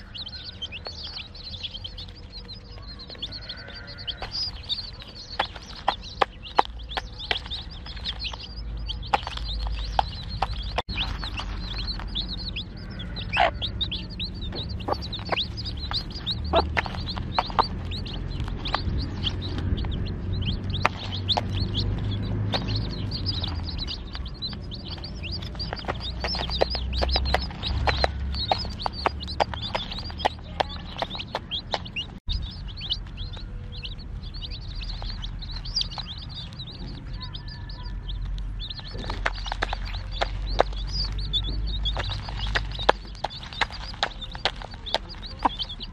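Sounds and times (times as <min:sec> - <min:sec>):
chicks peeping: 0:00.0 - 0:45.9
low rumble: 0:00.0 - 0:45.9.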